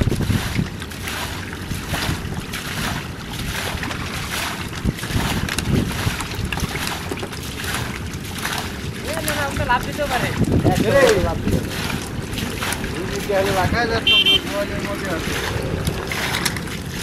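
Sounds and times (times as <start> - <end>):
hands splashing in muddy water: 0.0 - 17.0
wind on microphone: 0.0 - 17.0.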